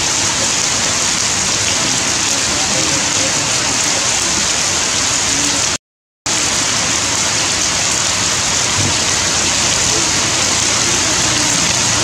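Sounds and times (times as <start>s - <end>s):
heavy rain splashing on stone: 0.0s - 12.0s.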